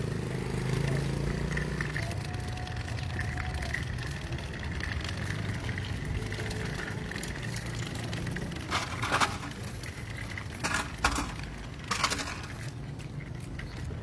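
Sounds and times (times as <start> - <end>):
stroller wheels rattling over grate: 0.0 - 14.0.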